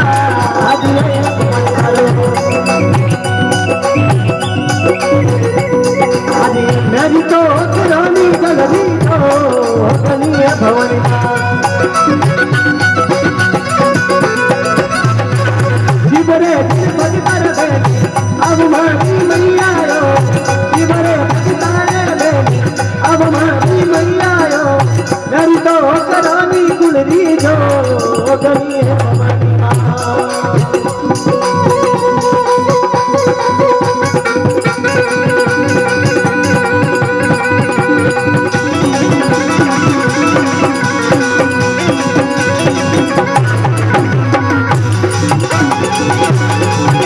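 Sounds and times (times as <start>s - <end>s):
folk devotional music: 0.0s - 47.0s
sliding melody line: 0.0s - 47.0s
steady percussion rhythm: 0.0s - 47.0s.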